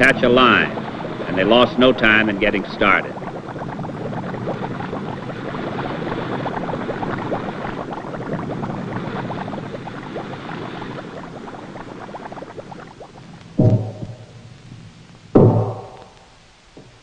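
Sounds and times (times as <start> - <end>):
underwater air bubbling: 0.0 - 16.3.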